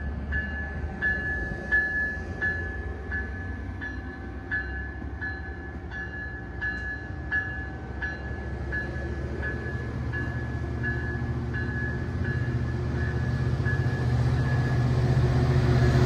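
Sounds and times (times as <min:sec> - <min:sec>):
train rolling with low rumble: 0:00.0 - 0:16.0.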